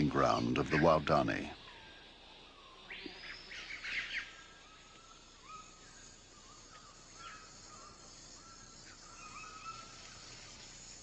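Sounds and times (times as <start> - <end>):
loud sweeping bird calls: 0.0 - 11.0
steady background hiss: 0.0 - 11.0.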